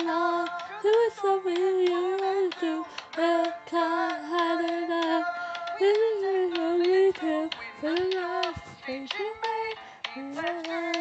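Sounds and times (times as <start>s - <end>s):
backing music: 0.0s - 11.0s
person singing: 0.0s - 11.0s.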